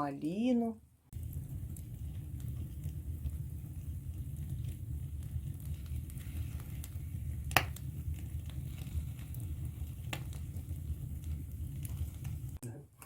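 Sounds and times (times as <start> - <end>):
fire rumbling in fireplace: 1.1 - 12.6
wood popping and cracking: 1.2 - 12.6.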